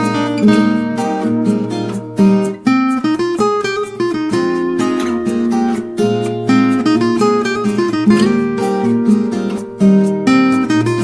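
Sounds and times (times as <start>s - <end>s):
strummed acoustic guitar chords: 0.0s - 11.0s.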